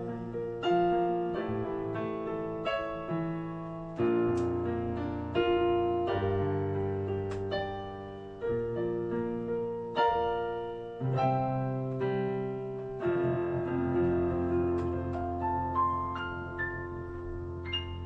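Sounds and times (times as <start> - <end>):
piano playing gentle chords: 0.0 - 18.0.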